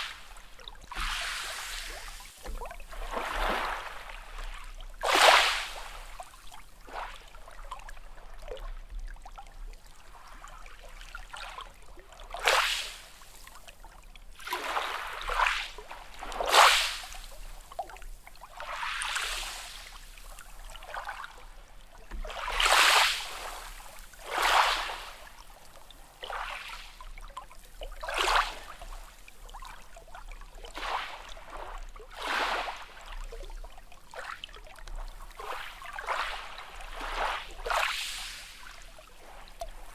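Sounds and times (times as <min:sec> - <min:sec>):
small waves lapping and splashing: 0:00.0 - 0:39.9.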